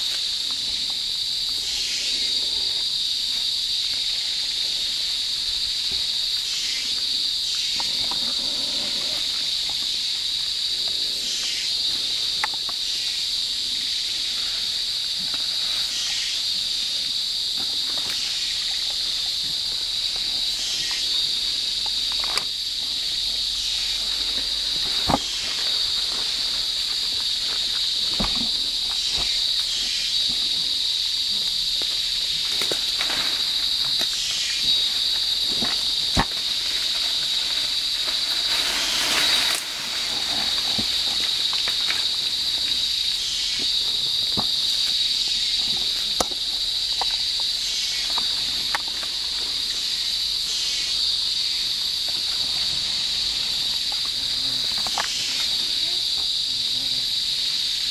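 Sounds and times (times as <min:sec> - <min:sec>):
high-pitched insect drone: 0:00.0 - 0:57.9
insect call: 0:00.0 - 0:57.9.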